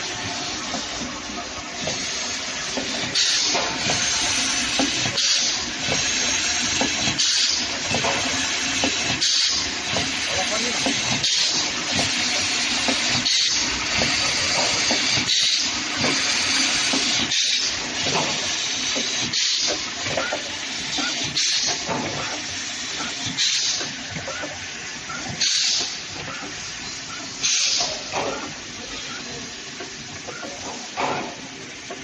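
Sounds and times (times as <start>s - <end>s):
machine hissing: 0.0s - 32.0s.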